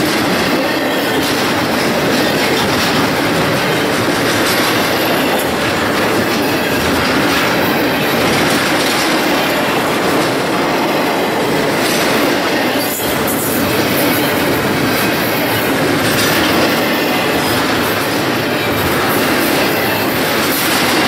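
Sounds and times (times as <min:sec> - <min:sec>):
steel train wheels on rails: 0:00.0 - 0:21.0.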